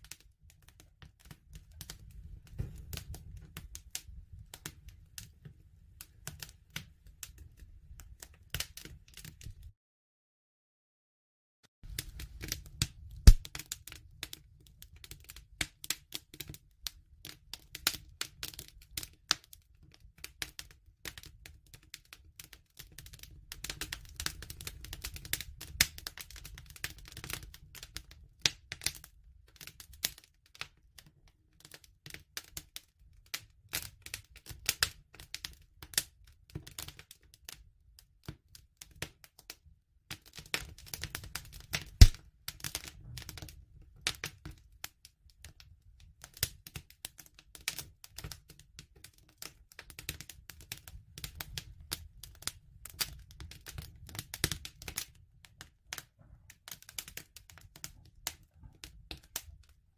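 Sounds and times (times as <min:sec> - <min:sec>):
wood fire crackling and popping: 0:00.0 - 0:09.7, 0:11.9 - 0:59.8.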